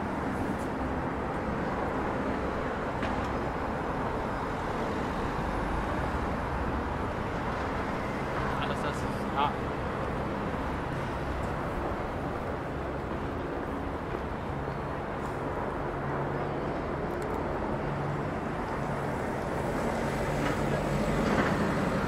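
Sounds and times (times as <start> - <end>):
traffic hum: 0.0 - 22.0.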